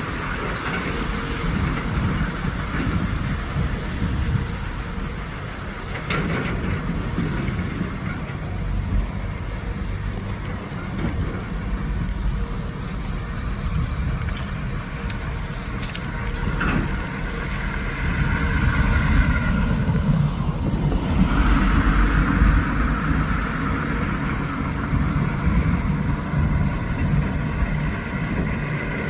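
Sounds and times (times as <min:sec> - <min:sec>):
jet engine whine: 0:00.0 - 0:29.0
jet engines rumbling: 0:00.0 - 0:29.0.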